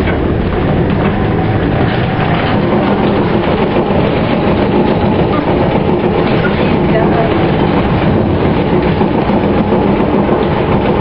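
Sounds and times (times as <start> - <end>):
tram wheels running on rails: 0.0 - 11.0.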